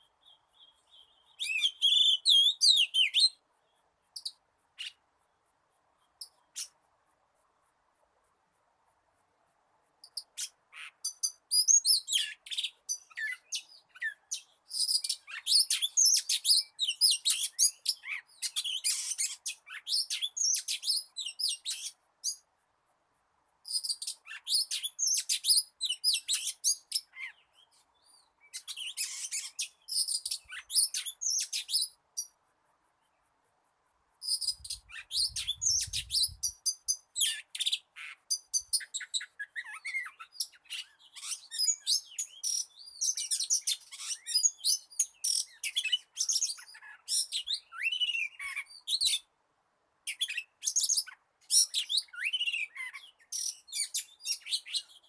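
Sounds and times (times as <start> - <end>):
bird singing whistles and chatters: 0.2 - 3.4, 10.0 - 22.4, 23.7 - 32.3, 34.2 - 49.3, 50.1 - 55.0.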